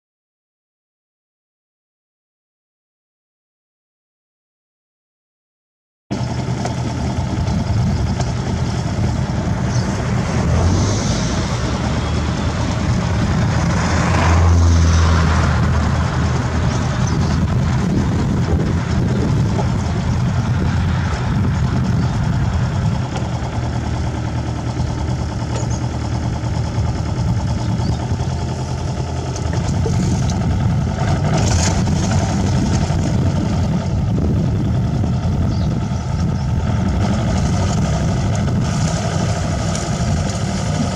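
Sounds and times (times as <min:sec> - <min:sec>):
tractor engine running: 0:06.1 - 0:40.9.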